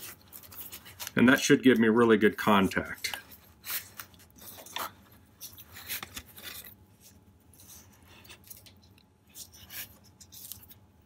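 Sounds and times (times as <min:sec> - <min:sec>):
tape rustling and rubbing: 0:00.0 - 0:01.8, 0:02.6 - 0:11.0.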